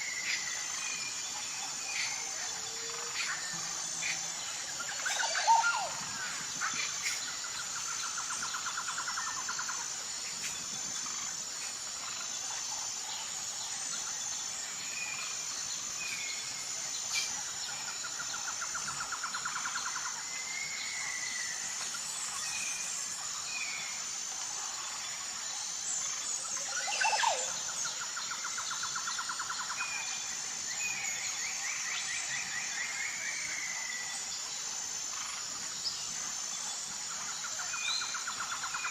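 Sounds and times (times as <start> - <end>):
insects chirring: 0.0 - 38.9
pulsing insect trills: 0.0 - 38.9.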